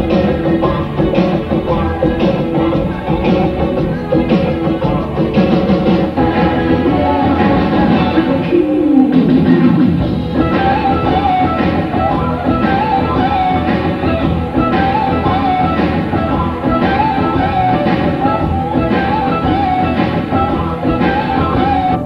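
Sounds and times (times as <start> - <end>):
electric guitar lead: 0.0 - 22.0
rock band playing: 0.0 - 22.0.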